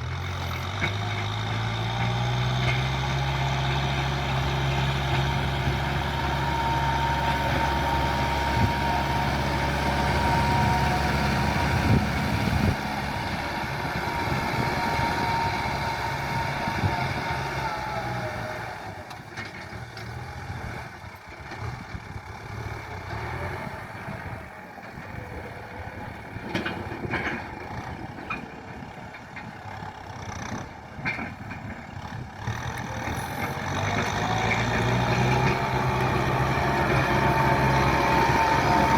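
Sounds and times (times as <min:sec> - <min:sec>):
diesel tractor engine running: 0:00.0 - 0:38.9
engine whine: 0:00.0 - 0:38.9.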